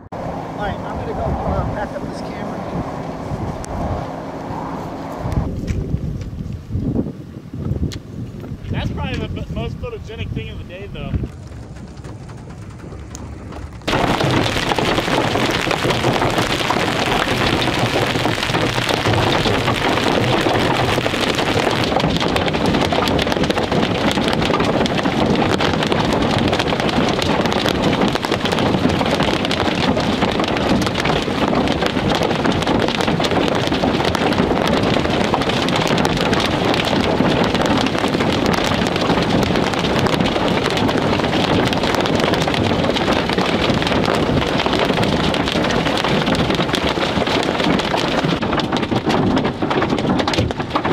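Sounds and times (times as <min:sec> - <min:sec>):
hail and rain on vehicle roof: 0:10.1 - 0:50.9.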